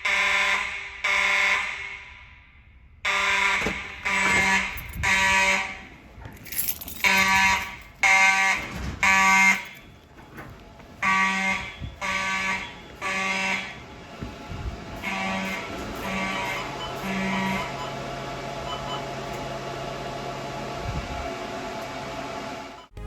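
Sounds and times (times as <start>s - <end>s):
fire alarm horns blasting: 0.0s - 23.0s.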